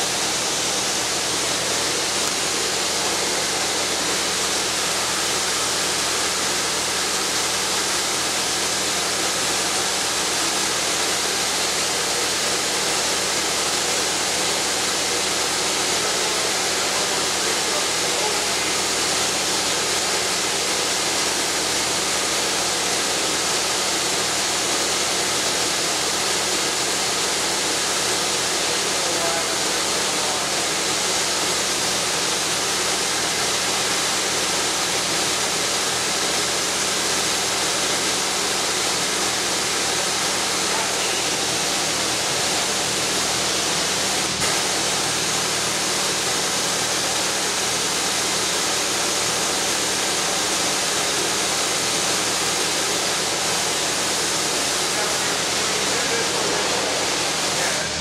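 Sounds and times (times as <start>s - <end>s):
pressure washer spraying water: 0.0s - 58.0s.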